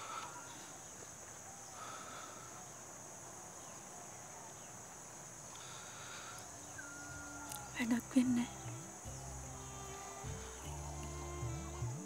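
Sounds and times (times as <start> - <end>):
high insect drone: 0.0 - 12.0
soft bird calls: 0.0 - 12.0.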